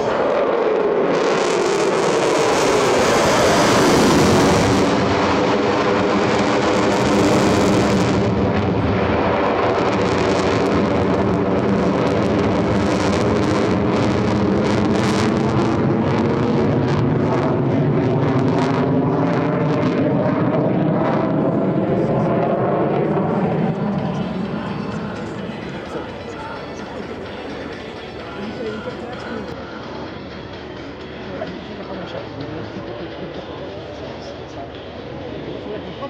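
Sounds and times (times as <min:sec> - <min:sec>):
fighter jet roaring past: 0:00.0 - 0:29.6.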